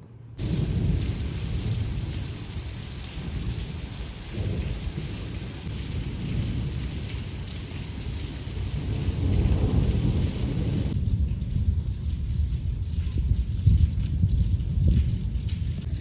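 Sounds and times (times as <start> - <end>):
rain hissing: 0.4 - 16.0.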